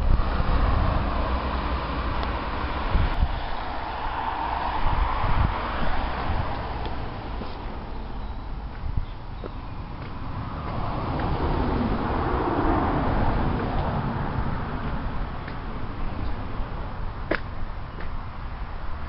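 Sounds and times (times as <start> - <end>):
vehicle passing: 0.0 - 9.0, 9.6 - 19.0
wind buffeting microphone: 0.0 - 18.4.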